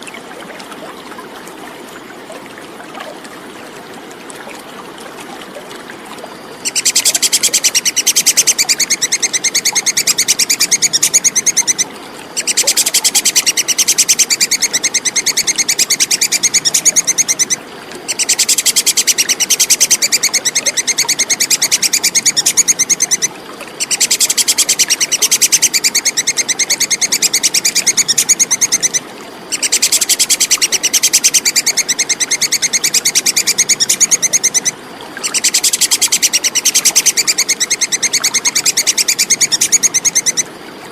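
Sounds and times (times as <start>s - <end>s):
running water hiss: 0.0s - 40.9s
squirrel chattering call: 6.6s - 40.5s.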